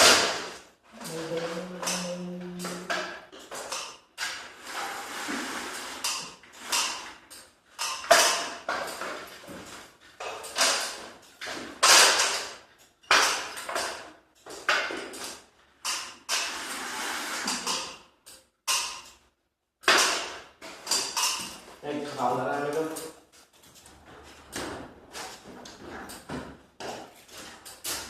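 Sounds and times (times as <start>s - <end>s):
knocks scrapes and rattles of tools: 0.0s - 28.0s.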